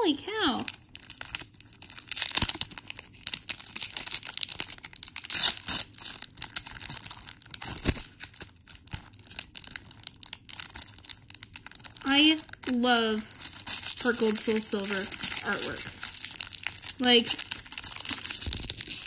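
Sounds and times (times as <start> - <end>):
foil wrapper crackling: 0.4 - 19.0.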